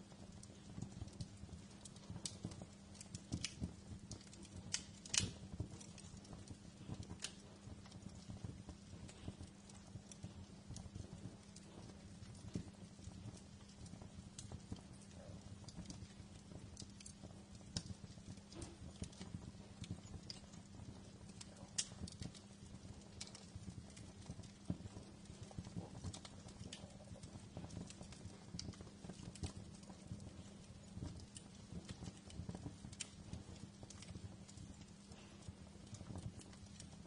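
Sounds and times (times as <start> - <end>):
steady low hum: 0.0 - 37.0
wood fire crackling: 0.0 - 37.0.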